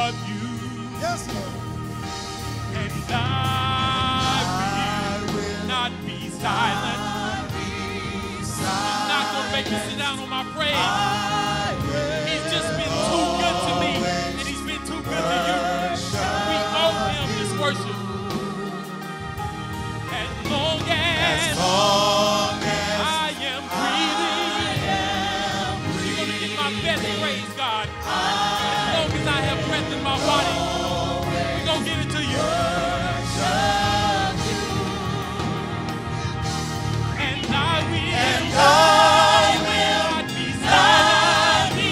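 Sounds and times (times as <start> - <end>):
choir singing worship song: 0.0 - 41.9
sustained accompaniment: 0.0 - 41.9.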